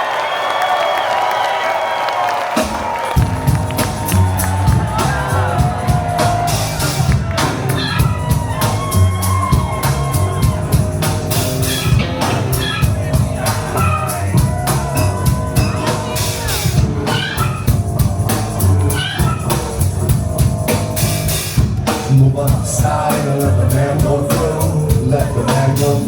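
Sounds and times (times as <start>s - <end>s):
drum kit beat: 2.4s - 26.0s
heavy repeating bass line: 3.2s - 26.0s.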